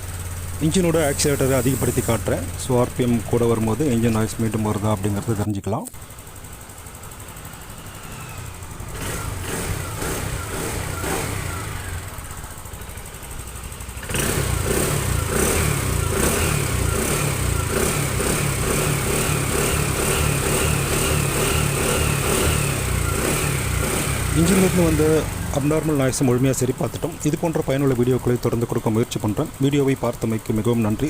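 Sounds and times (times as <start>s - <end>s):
scooter engine revving: 0.0s - 31.0s.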